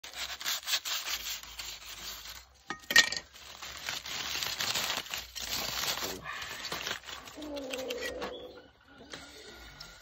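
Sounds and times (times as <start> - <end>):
foil crinkling and tearing: 0.0 - 8.4.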